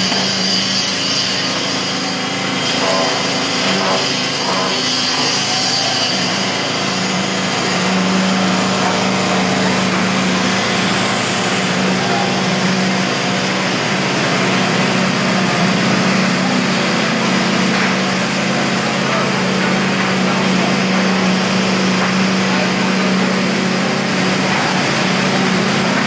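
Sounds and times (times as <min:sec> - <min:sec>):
concrete machinery running: 0:00.0 - 0:26.0.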